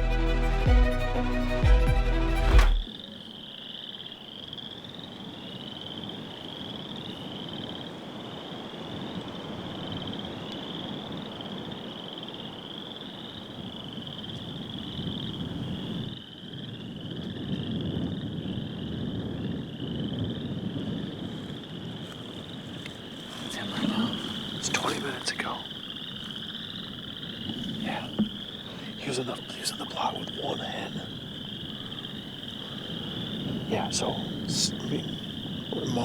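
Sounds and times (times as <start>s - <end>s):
frogs trilling in chorus: 2.8s - 36.0s.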